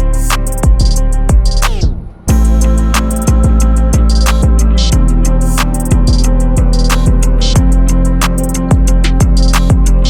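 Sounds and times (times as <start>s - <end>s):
quick hi-hats: 0.0s - 10.0s
sliding bass drum beat: 0.0s - 10.0s.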